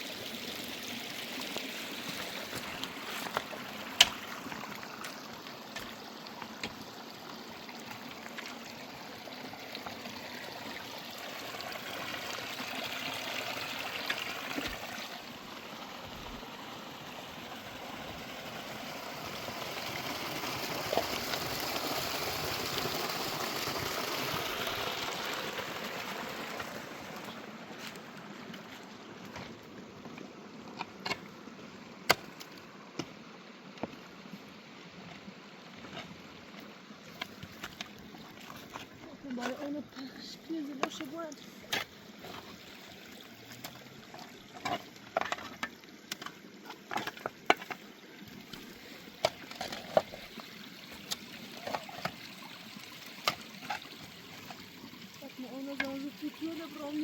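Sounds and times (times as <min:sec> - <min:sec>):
mountain stream flowing: 0:00.0 - 0:57.0.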